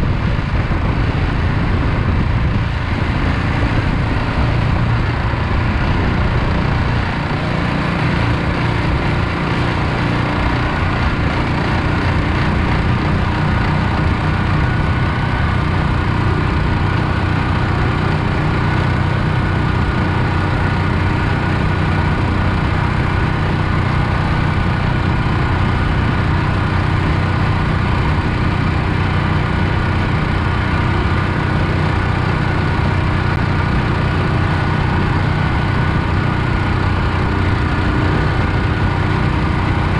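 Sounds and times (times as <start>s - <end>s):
boat motor running steadily: 0.0s - 39.9s.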